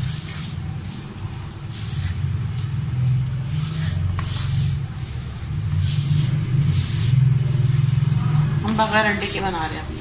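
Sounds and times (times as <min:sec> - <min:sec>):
hands rubbing flour in bowl: 0:00.0 - 0:08.1.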